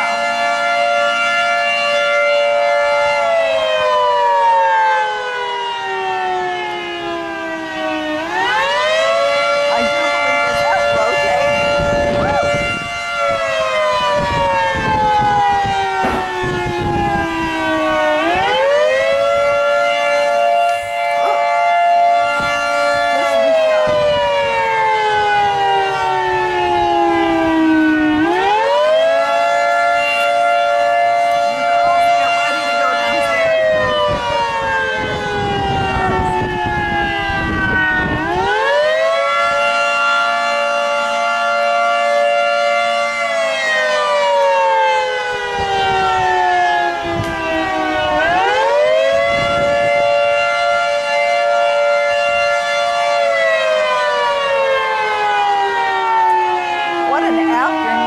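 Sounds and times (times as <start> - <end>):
tornado warning siren wailing: 0.0 - 58.0.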